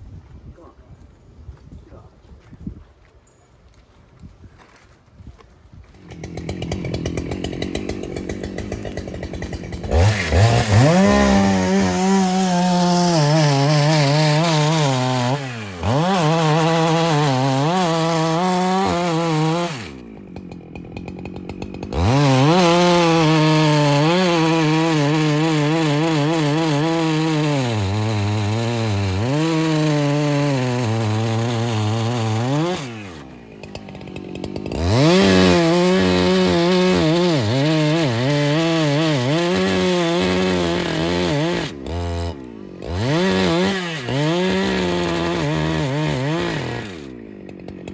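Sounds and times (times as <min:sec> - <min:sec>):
chainsaw cutting wood: 0:05.9 - 0:47.9.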